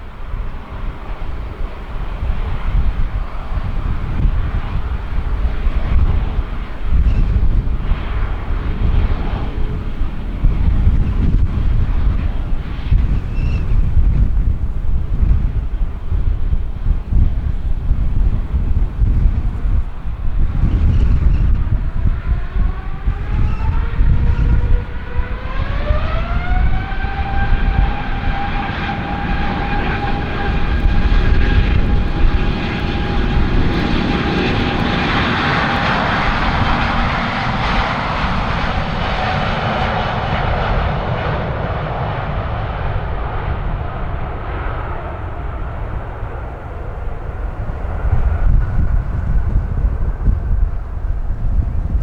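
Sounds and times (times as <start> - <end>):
jet engine fan whine: 0.0 - 52.0
jet noise: 0.0 - 52.0
wind rumble on microphone: 0.0 - 52.0.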